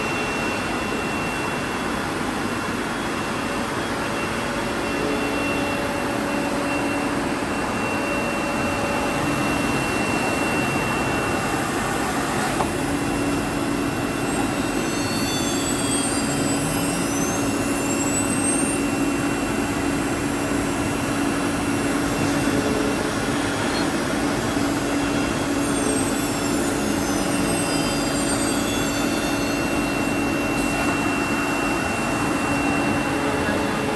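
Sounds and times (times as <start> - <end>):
brief high whines: 0.0 - 33.9
cnc router running: 0.0 - 33.9.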